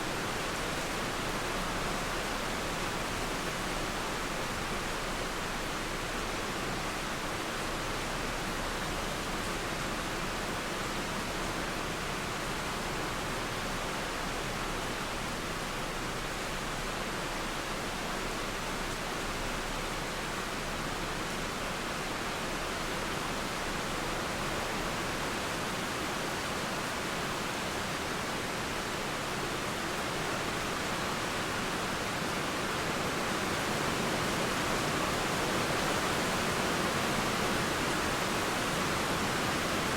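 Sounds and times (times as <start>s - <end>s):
river flowing: 0.0s - 39.9s
steady rain: 0.0s - 39.9s.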